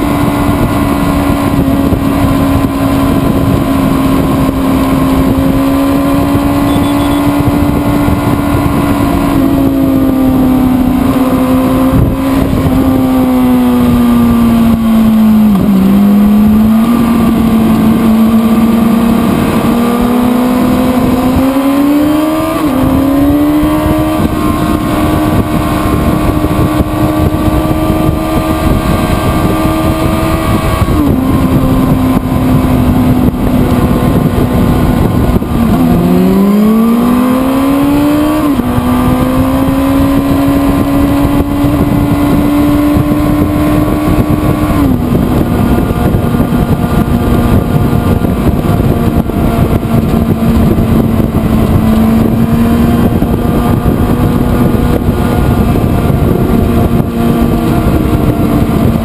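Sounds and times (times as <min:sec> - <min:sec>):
motorcycle engine running at speed: 0:00.0 - 0:59.0
wind rush: 0:00.0 - 0:59.0.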